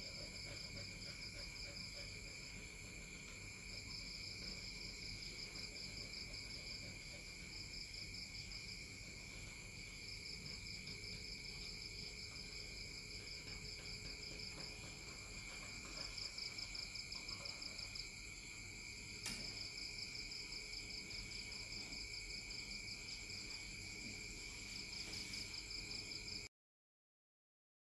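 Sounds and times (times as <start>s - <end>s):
crickets chirping: 0.0s - 26.5s.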